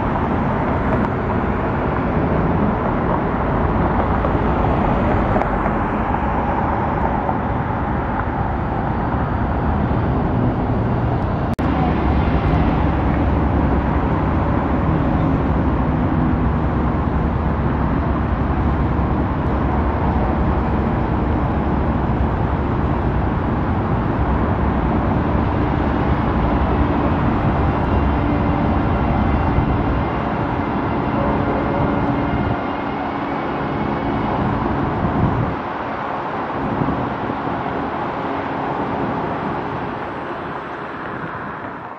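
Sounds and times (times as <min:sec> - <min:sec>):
road traffic passing: 0:00.0 - 0:41.9.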